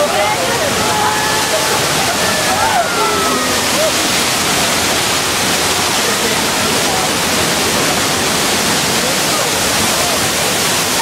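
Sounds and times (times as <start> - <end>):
faint voices: 0.0 - 11.0
heavy rushing water: 0.0 - 11.0.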